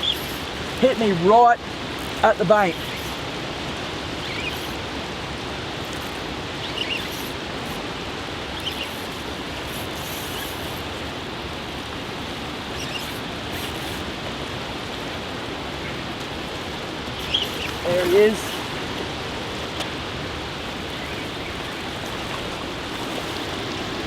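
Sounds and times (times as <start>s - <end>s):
fishing reel whirring: 0.0s - 15.4s, 16.0s - 24.0s.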